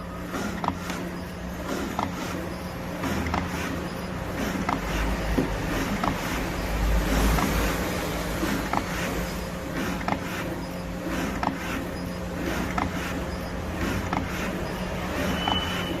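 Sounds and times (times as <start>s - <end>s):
machine motor hum: 0.0s - 16.0s.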